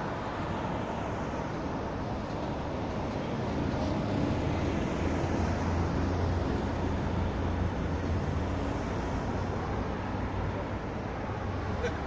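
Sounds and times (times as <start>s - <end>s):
bus engine drone: 0.0s - 12.0s
busy city traffic: 0.0s - 12.0s.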